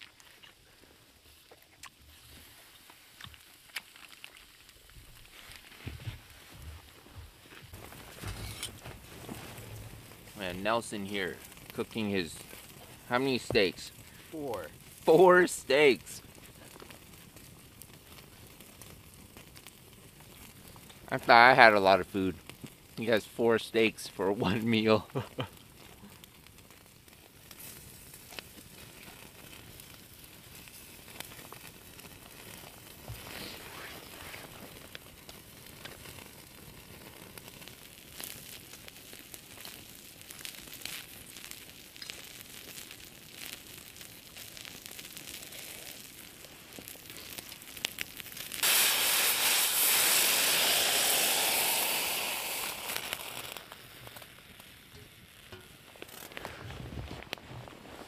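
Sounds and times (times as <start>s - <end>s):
steak sizzling in hot pan: 0.0s - 56.5s
campfire crackling: 0.0s - 58.0s.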